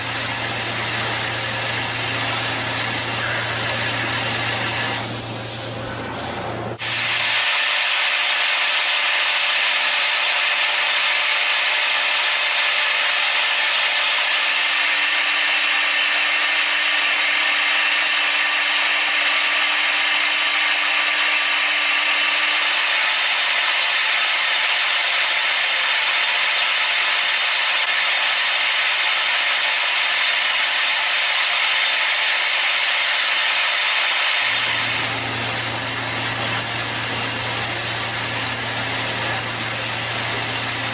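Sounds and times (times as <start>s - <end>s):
machine running: 0.0s - 40.9s.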